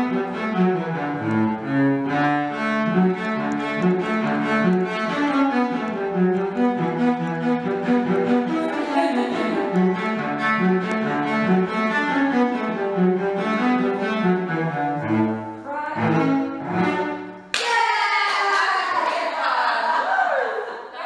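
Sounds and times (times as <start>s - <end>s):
solo cello playing a tune: 0.0s - 17.4s.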